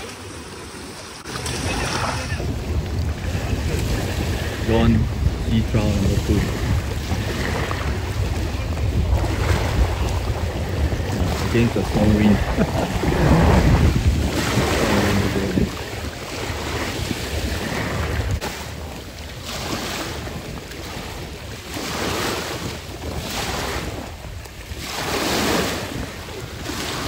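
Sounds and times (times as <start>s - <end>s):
sea waves: 0.0s - 27.0s
wind buffeting microphone: 0.0s - 27.0s.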